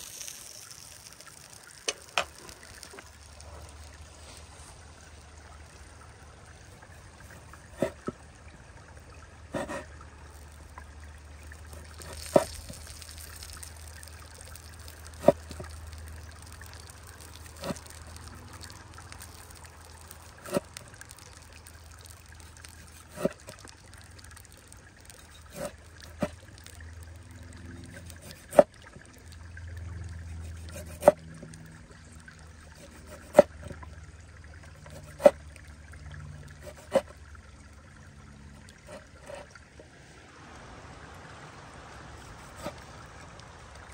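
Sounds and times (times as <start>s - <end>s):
stream trickling: 0.0s - 43.9s.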